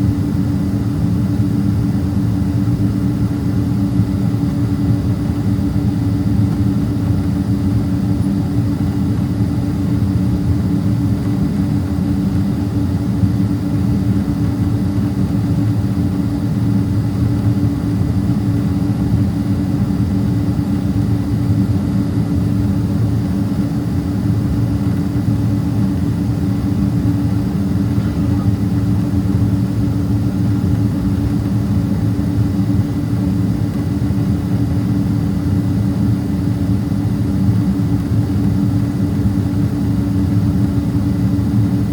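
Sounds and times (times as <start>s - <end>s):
airplane cabin engine drone: 0.0s - 41.9s.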